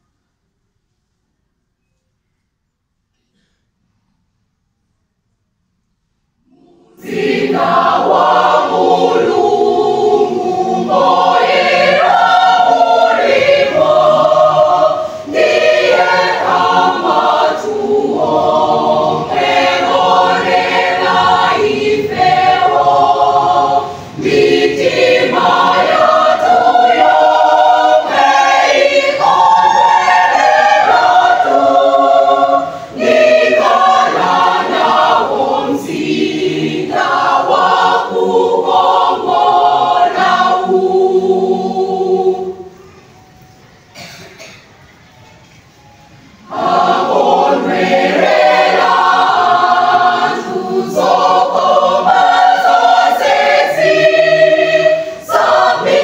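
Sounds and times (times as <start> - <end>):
choir singing a hymn: 6.4 - 44.6, 46.1 - 56.0.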